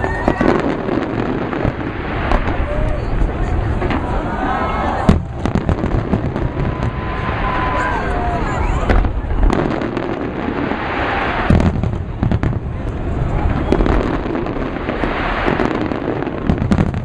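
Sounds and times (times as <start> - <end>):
fireworks bangs and booms: 0.0 - 17.0
fireworks crackling: 0.0 - 17.0.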